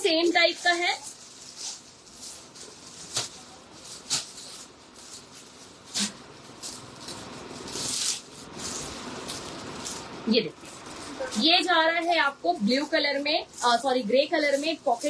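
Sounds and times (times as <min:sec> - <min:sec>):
clothing rustling: 0:00.0 - 0:15.0.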